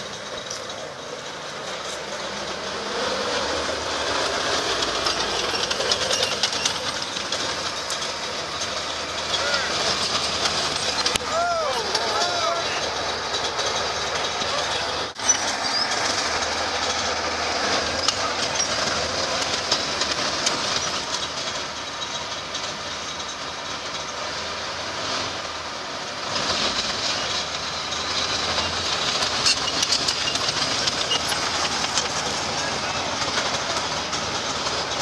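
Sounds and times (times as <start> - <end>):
tank tracks clattering: 0.0 - 24.4, 26.3 - 35.0
tank engine running: 0.0 - 35.0.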